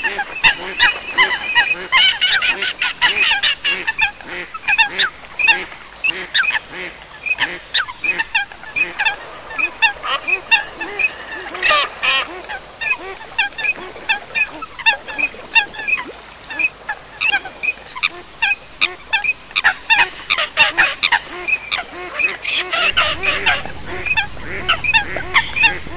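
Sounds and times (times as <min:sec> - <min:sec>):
coots and ducks calling: 0:00.0 - 0:25.9.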